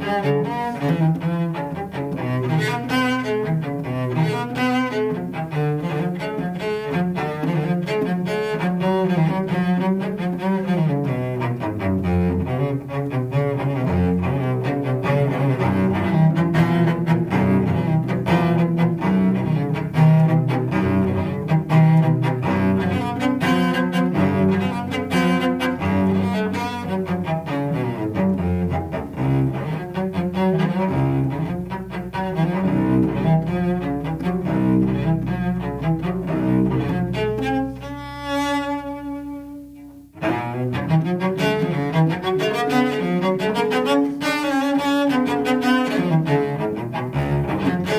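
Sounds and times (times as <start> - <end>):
bowed cello: 0.0 - 47.9.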